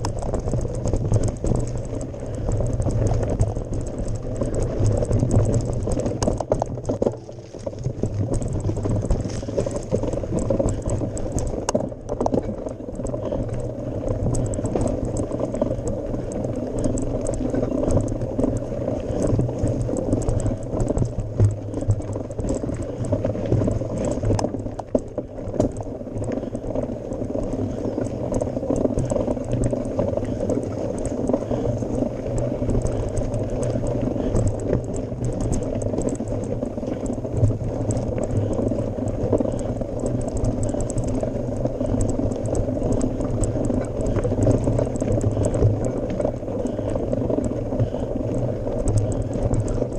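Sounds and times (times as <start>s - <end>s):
tyres crunching on gravel: 0.0s - 48.0s
bike rattles and knocks: 0.0s - 49.9s.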